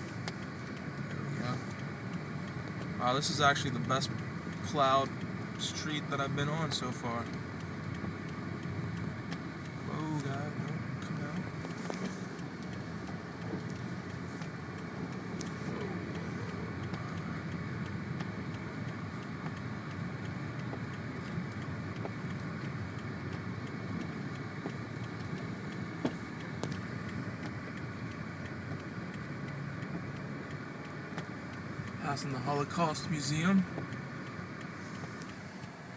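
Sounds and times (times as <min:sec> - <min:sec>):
car engine: 0:00.0 - 0:35.9.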